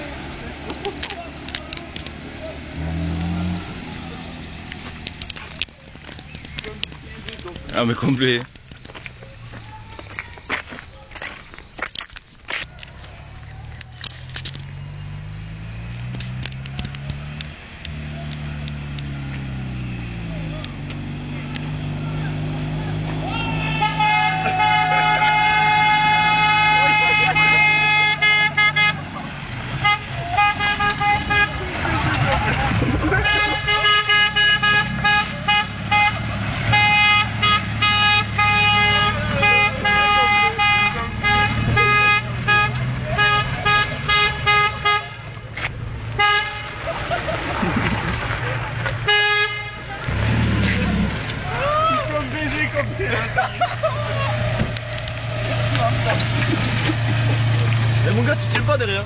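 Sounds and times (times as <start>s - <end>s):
car engine accelerating: 0.0s - 10.2s, 12.7s - 59.0s.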